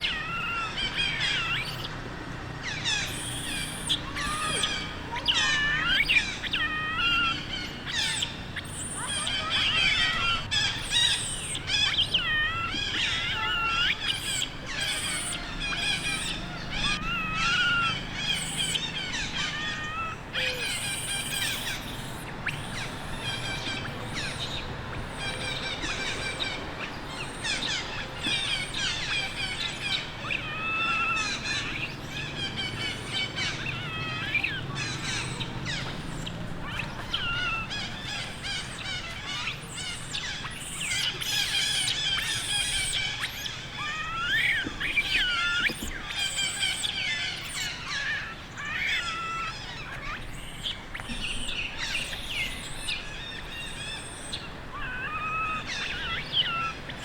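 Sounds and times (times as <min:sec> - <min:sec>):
baby monkey crying: 0:00.0 - 0:57.0.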